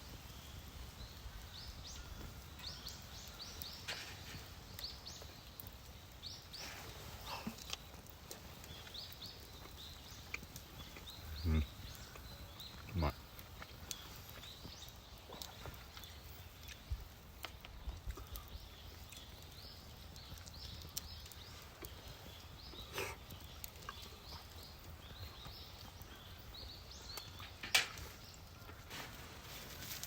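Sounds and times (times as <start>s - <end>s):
birds chirping faintly: 0.0s - 30.0s.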